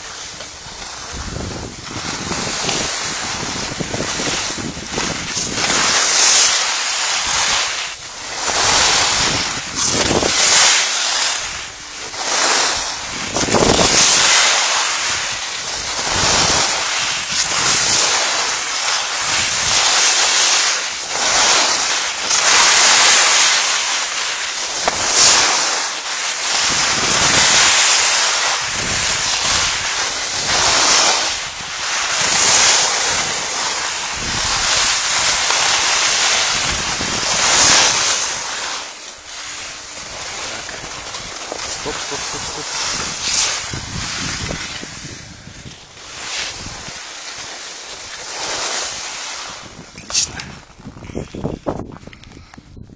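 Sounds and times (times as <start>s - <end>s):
wind on microphone: 0.0s - 23.8s, 26.5s - 38.7s, 39.6s - 47.1s, 48.0s - 52.9s
skis scraping over snow: 0.0s - 51.9s.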